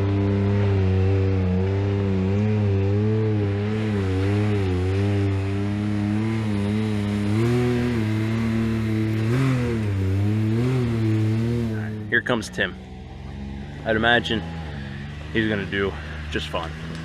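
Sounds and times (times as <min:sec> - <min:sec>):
engine idling: 0:01.7 - 0:17.0.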